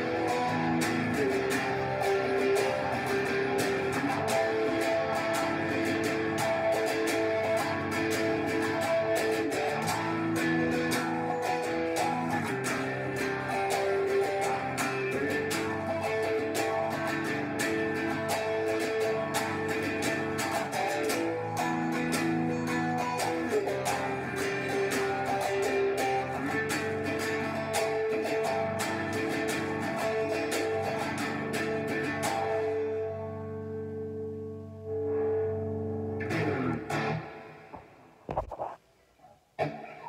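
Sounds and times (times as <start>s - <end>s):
guitar strummed and picked: 0.0s - 38.7s, 39.6s - 40.0s.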